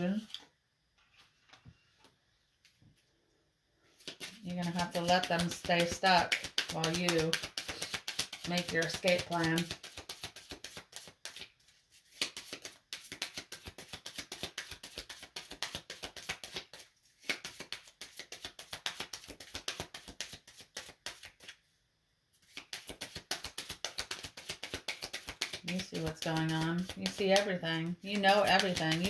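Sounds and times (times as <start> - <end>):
cards being shuffled: 3.9 - 21.6, 22.4 - 29.0.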